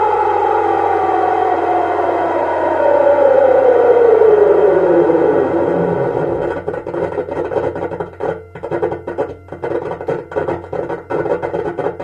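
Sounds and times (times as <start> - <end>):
raspy electronic motor hum: 0.0 - 12.0.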